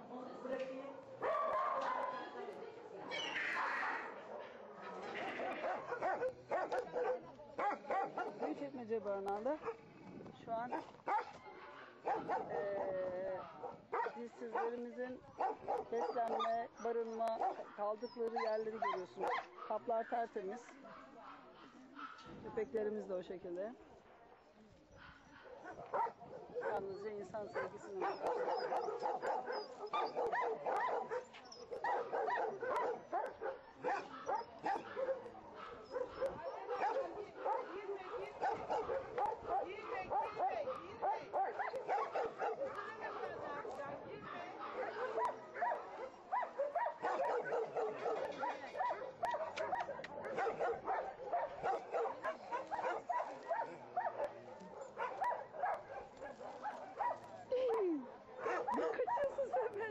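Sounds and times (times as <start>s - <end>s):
dogs barking and yelping: 1.2s - 2.3s, 5.5s - 8.6s, 10.7s - 20.2s, 24.9s - 59.9s.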